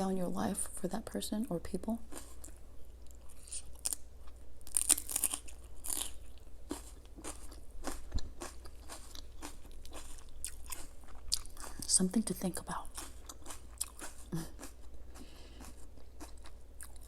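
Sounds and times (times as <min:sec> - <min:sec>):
person chewing crunchy food: 0:02.0 - 0:12.0, 0:12.8 - 0:17.0.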